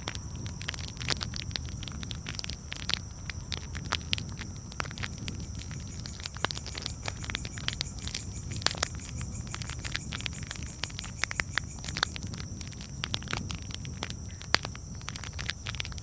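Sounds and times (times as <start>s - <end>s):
high-pitched hiss: 0.0s - 16.0s
low fire rumble: 0.0s - 16.0s.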